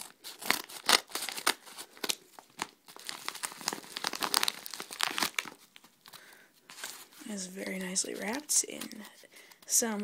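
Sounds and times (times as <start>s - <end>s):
envelope crinkling and rustling: 0.0s - 9.8s.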